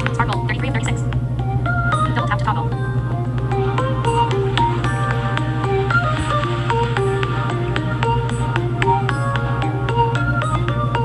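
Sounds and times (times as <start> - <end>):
steady low tone: 0.0 - 11.0
phone ringtone melody: 1.5 - 11.0.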